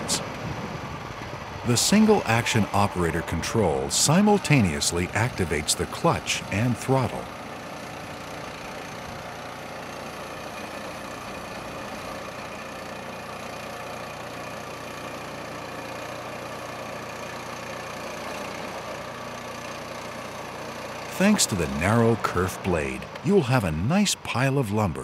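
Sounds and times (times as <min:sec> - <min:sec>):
small gasoline engine running: 0:00.0 - 0:24.9
band saw cutting log: 0:01.3 - 0:23.8.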